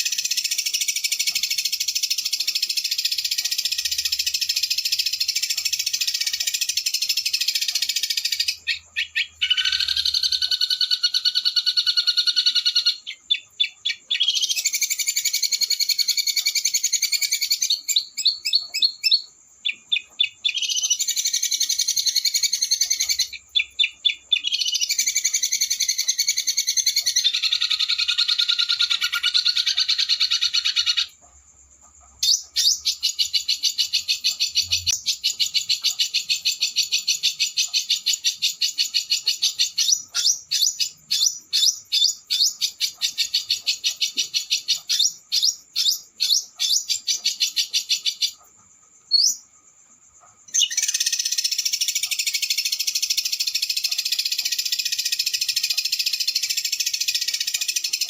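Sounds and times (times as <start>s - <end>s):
songbird trilling: 0.0s - 31.2s, 31.9s - 48.5s, 49.1s - 49.5s, 50.3s - 58.0s.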